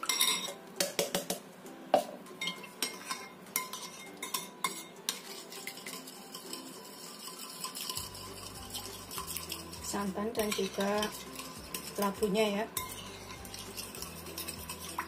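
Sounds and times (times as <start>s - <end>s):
utensil scraping a bowl: 2.8s - 15.0s.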